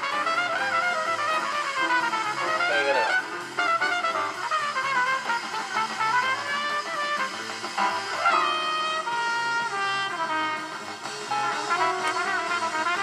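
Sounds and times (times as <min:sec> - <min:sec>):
jazz on a radio with horns: 0:00.0 - 0:13.0.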